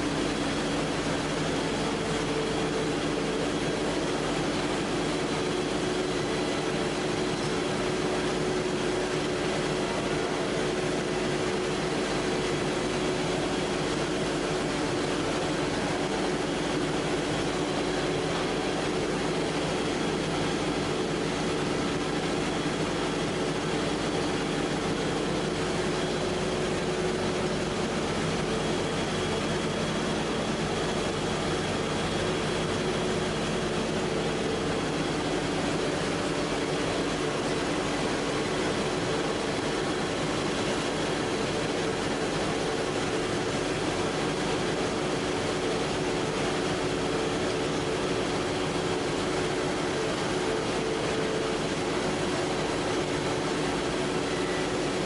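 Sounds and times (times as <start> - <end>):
machinery hum with steady tones: 0.0 - 55.0.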